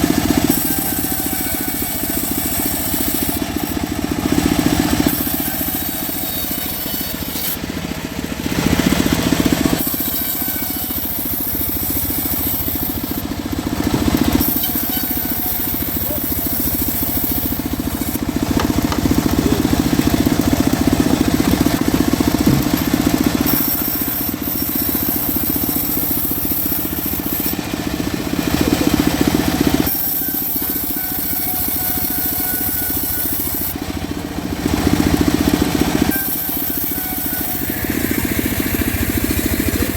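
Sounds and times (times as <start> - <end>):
bandsaw mill humming: 0.0 - 39.9
saw blade rasping through wood: 0.0 - 39.9.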